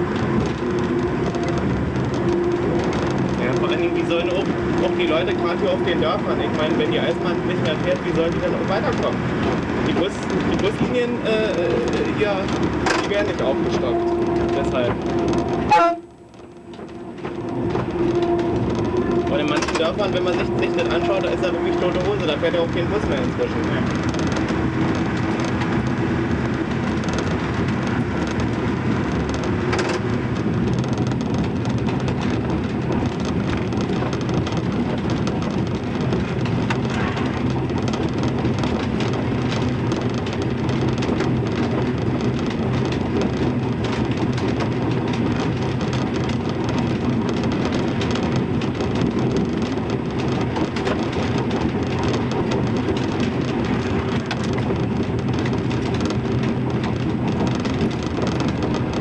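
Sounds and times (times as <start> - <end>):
diesel engine hum: 0.0 - 59.0
wheels rumbling on track: 0.0 - 59.0.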